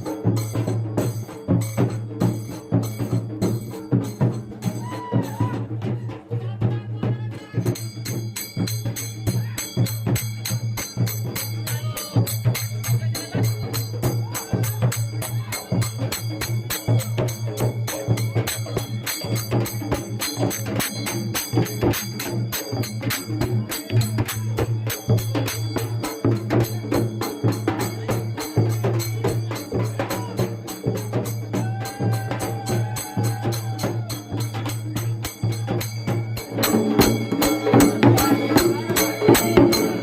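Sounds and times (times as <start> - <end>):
percussion music: 0.0 - 40.0.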